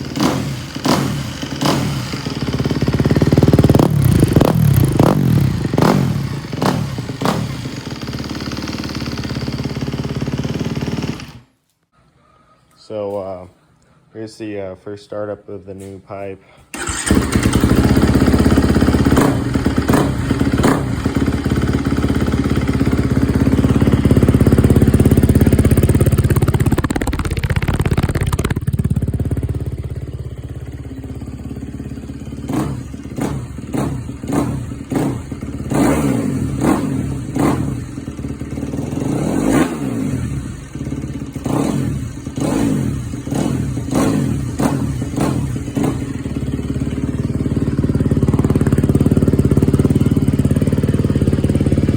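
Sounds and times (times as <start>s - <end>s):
motorcycle engine revving: 0.0s - 11.5s, 16.8s - 51.9s.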